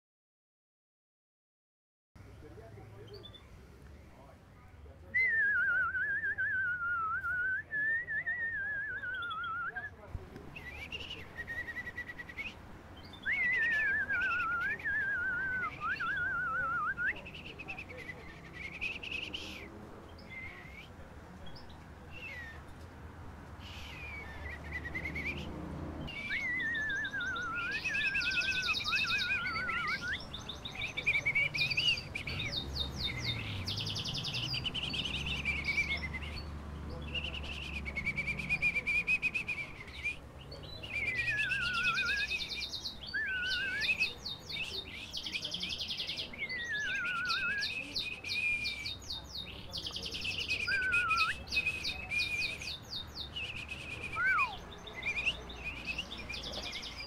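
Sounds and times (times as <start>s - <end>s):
people whistling birdsong: 5.1s - 21.0s, 22.1s - 22.7s, 23.6s - 57.0s.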